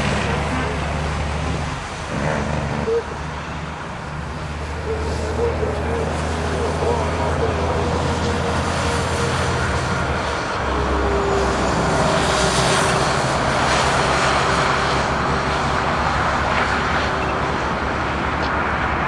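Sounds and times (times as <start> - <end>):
diesel engine rumble: 0.0 - 19.0
plow blades pushing snow: 0.0 - 19.0.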